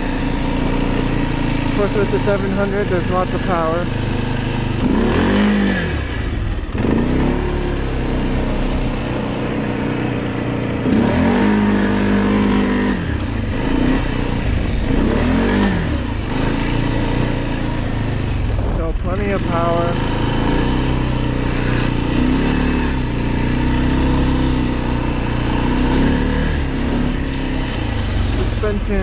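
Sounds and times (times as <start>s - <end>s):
atv engine revving: 0.0s - 29.0s.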